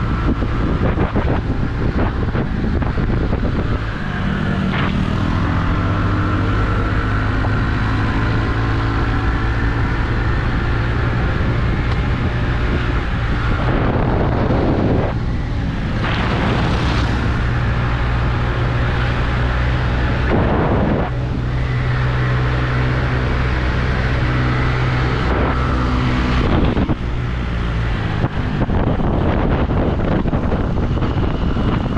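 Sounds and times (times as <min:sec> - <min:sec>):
vehicle engine running: 0:00.0 - 0:31.9
wind buffeting microphone: 0:00.0 - 0:31.9.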